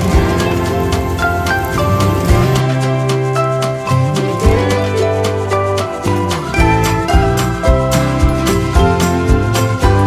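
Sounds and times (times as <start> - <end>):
melodic music over steady beat: 0.0 - 10.0.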